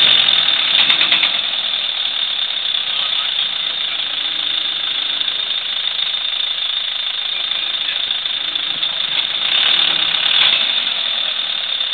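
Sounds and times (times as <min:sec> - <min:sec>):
engine running with harsh rattle: 0:00.0 - 0:11.9.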